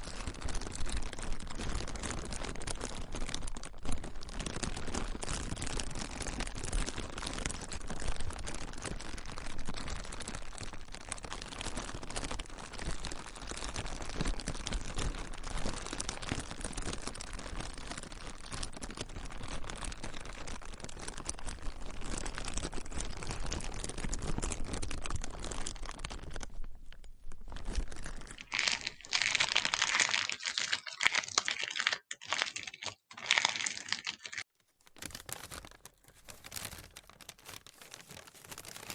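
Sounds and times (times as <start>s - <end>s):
plastic being crinkled: 0.0s - 38.9s.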